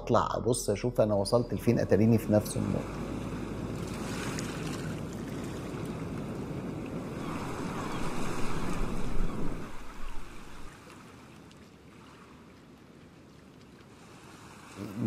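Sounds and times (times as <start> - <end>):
wind: 0.0 - 15.0
sea waves washing on shore: 2.2 - 15.0.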